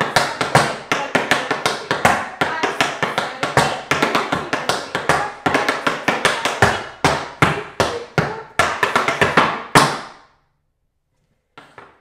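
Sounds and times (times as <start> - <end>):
tap shoes on hard floor: 0.0 - 10.2, 11.6 - 12.0.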